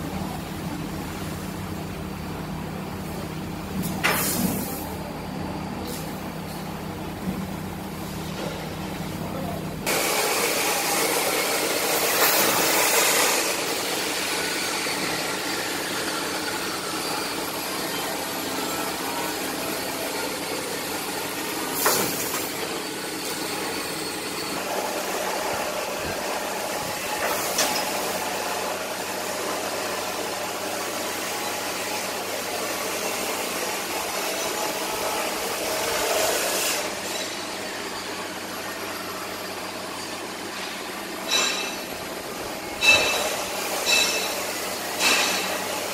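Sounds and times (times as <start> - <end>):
laser cutting machine humming: 4.6 - 45.9.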